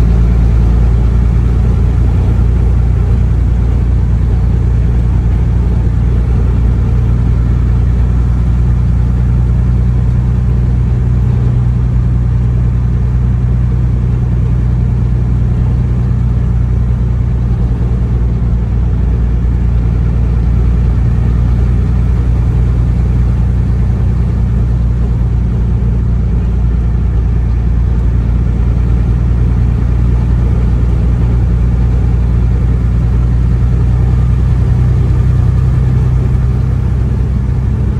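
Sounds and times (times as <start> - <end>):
road noise: 0.0 - 37.9
vehicle engine hum: 0.0 - 37.9.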